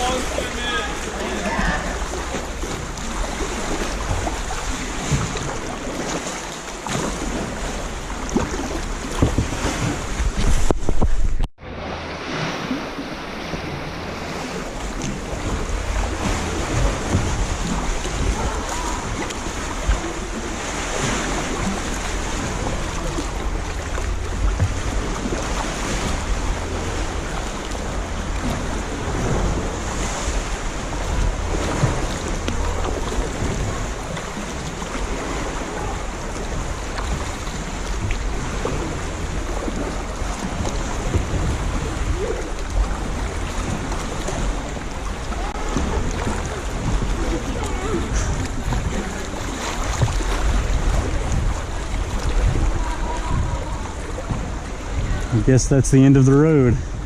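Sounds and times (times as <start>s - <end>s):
waves lapping against kayak: 0.0s - 57.0s
wind rumbling on microphone: 0.0s - 57.0s.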